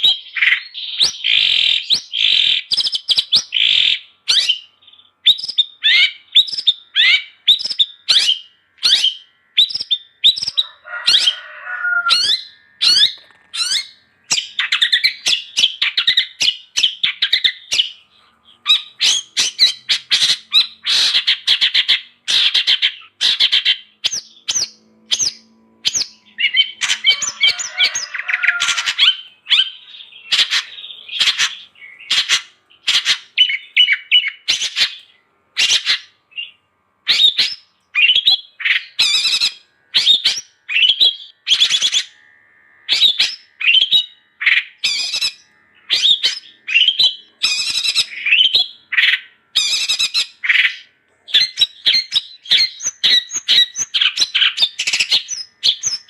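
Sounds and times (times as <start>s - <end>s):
shrike chattering and whistling: 0.0s - 42.2s, 42.9s - 56.0s.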